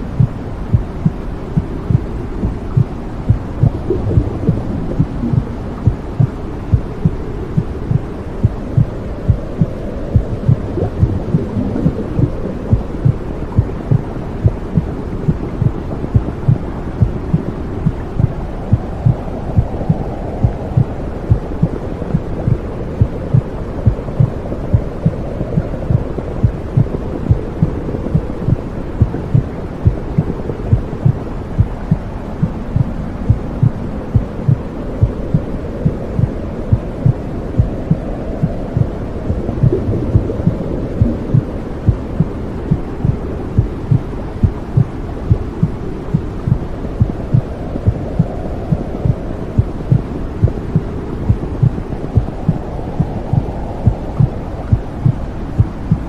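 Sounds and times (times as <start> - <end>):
heartbeat: 0.0 - 56.0
muffled whooshing rumble: 0.0 - 56.0.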